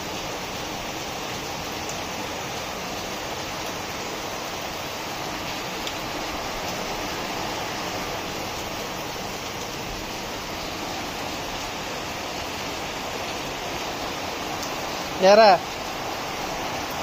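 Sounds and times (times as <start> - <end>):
rain falling steadily: 0.0 - 17.0.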